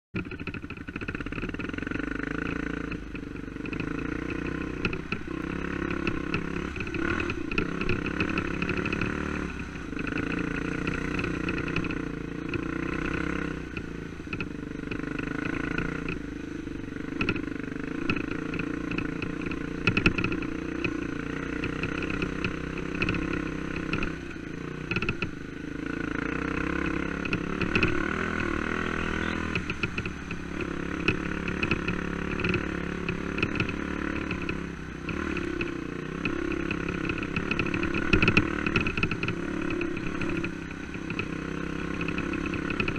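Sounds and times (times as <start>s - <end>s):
dirt bike engine revving: 0.4s - 16.2s, 16.9s - 42.9s.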